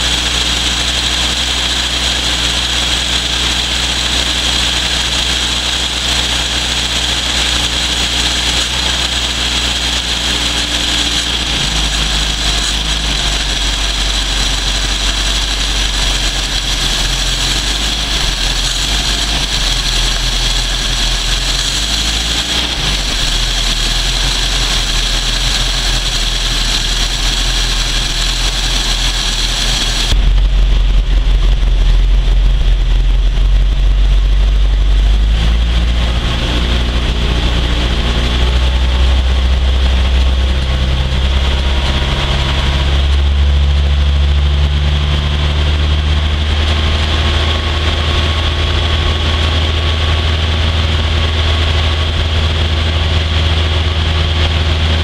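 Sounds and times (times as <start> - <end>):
pickup engine idling: 0.0 - 55.0.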